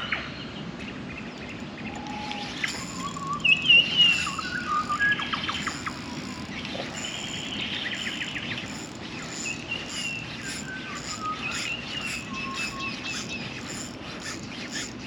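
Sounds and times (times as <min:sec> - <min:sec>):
bird chattering trills: 0:01.4 - 0:15.0
birds whistling: 0:01.4 - 0:15.0.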